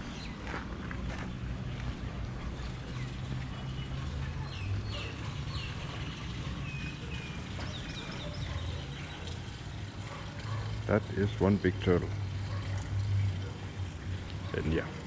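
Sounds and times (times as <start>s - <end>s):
birds chirping: 0.0s - 13.6s.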